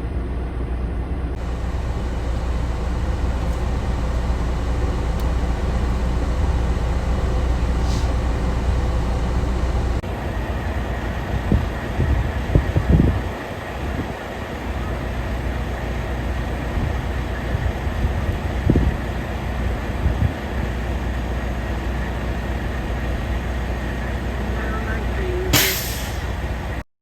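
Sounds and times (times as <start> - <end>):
strong wind buffeting truck: 0.0 - 26.8.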